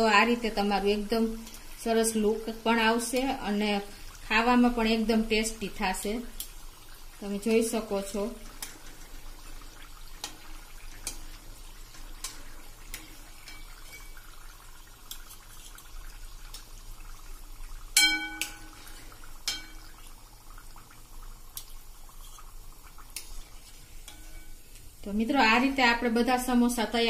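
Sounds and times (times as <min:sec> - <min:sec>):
deep-frying oil sizzling: 0:00.0 - 0:27.0.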